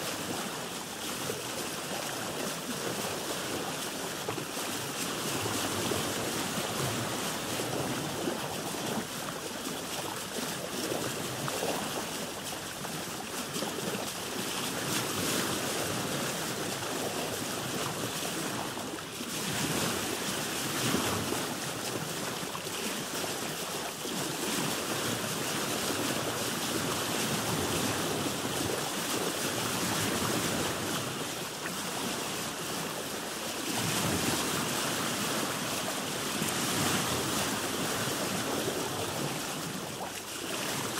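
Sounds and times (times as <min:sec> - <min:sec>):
waves washing around a boat: 0:00.0 - 0:40.9
wind: 0:00.0 - 0:40.9.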